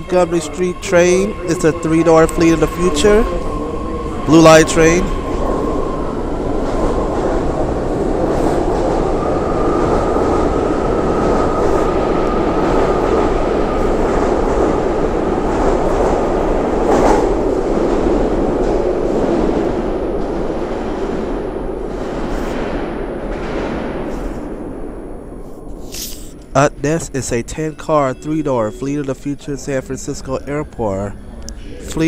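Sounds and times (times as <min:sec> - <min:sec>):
train wheels rumbling on rail: 0:00.0 - 0:27.2.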